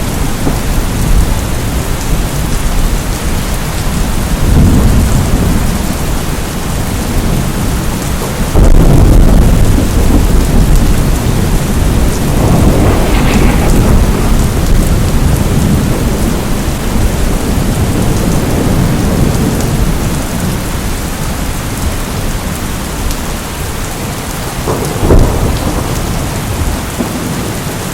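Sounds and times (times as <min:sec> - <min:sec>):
low rumble of thunder: 0:00.0 - 0:23.1, 0:24.5 - 0:27.9
heavy rain: 0:00.0 - 0:27.9.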